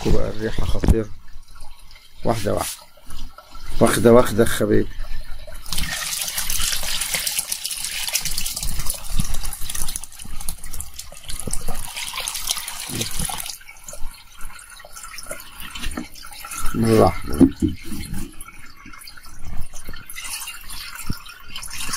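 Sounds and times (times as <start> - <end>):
liquid pouring and splashing into bowl: 0.0 - 21.9.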